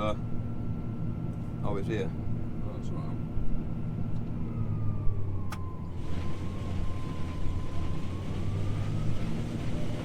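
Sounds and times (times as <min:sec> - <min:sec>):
combine engine hum: 0:00.0 - 0:10.0.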